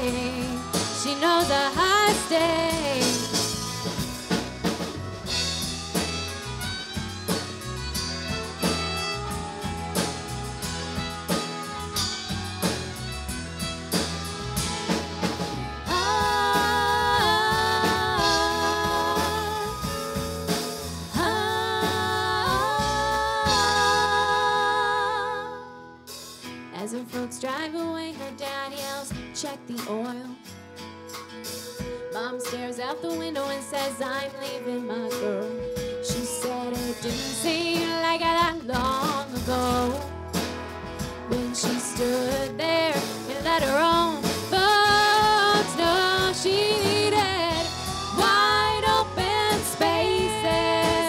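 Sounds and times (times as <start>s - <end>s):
drum kit beat: 0.0s - 24.7s, 31.0s - 51.0s
bass and guitars: 0.0s - 51.0s.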